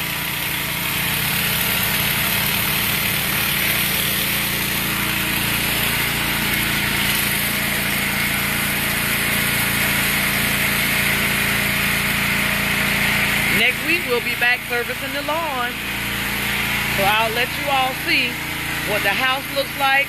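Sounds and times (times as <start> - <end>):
pressure washer engine hum: 0.0 - 20.0
pressure washer hiss: 0.0 - 20.0.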